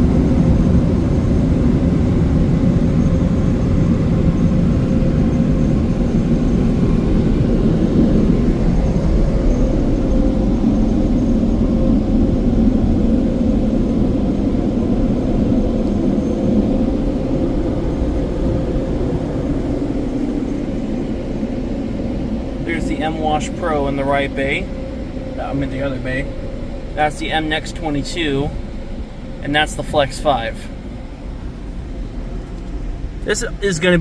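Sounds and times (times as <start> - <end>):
faint steady hum: 0.0 - 34.0
mechanical rumble: 0.0 - 34.0.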